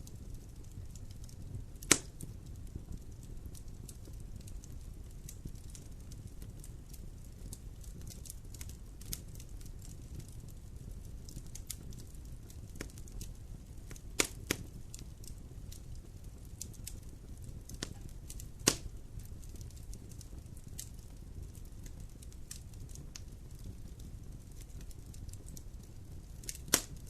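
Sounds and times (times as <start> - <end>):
fireplace fire crackling: 0.0 - 27.0
low fire rumble: 0.0 - 27.0
sharp fire pops: 0.0 - 27.0.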